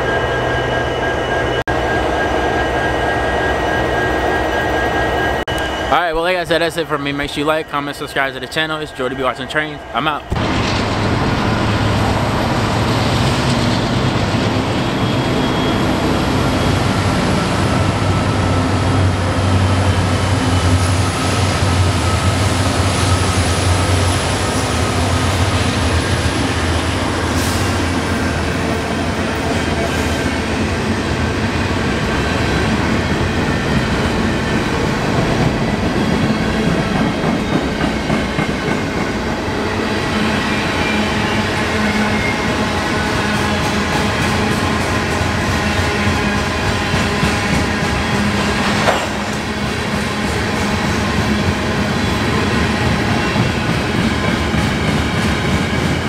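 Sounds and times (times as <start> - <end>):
diesel locomotive engines: 0.0 - 56.0
freight cars rumbling on rails: 9.8 - 56.0.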